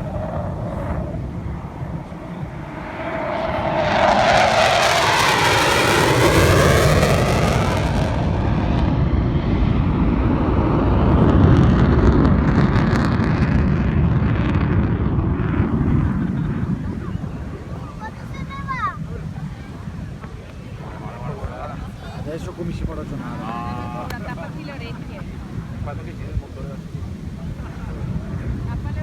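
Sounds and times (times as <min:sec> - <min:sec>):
jet flyby: 0:00.0 - 0:29.0.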